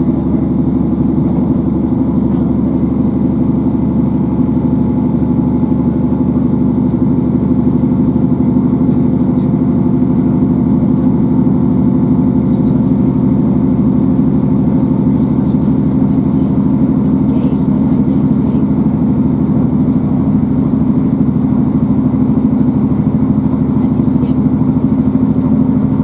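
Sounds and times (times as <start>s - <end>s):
diesel engine drone: 0.0s - 26.0s
train wheels rumbling on track: 0.0s - 26.0s.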